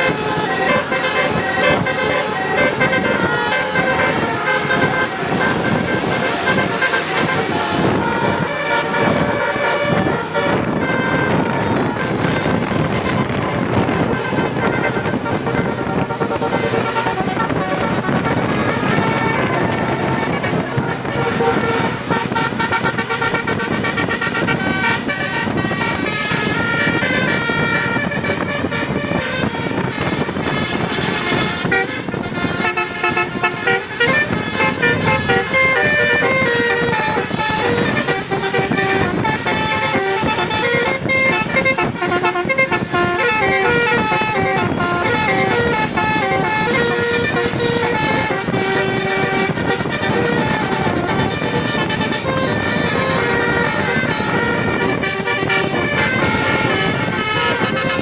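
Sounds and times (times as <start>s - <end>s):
bus engine rumbling: 0.0s - 58.0s
multi-tone bus horn melody: 0.0s - 58.0s.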